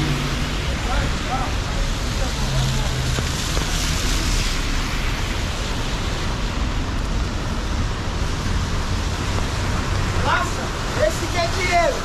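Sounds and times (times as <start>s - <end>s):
low rumble of passing vehicles: 0.0s - 12.0s
rainfall: 0.0s - 12.0s
traffic hiss: 0.0s - 12.0s.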